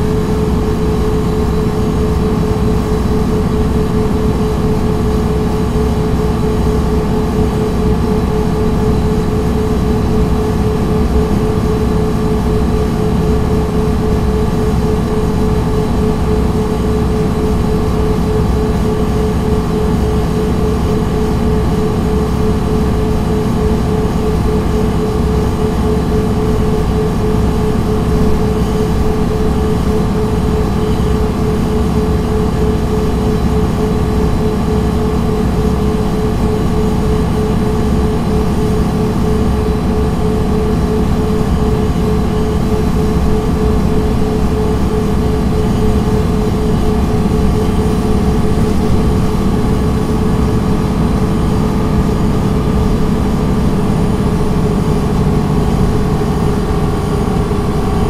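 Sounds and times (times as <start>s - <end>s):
steady whine: 0.0s - 58.0s.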